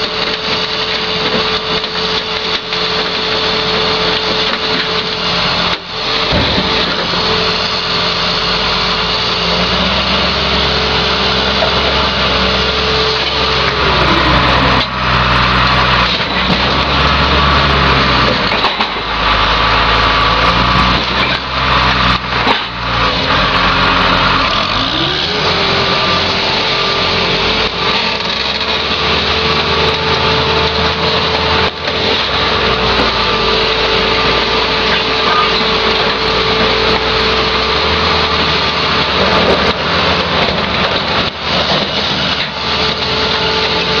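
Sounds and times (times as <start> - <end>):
car crusher diesel engine: 0.0 - 44.0
wheel loader working: 0.0 - 44.0.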